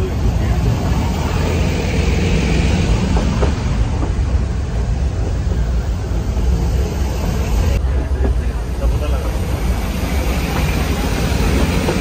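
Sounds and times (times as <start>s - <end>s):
moving train rumble: 0.0s - 12.0s.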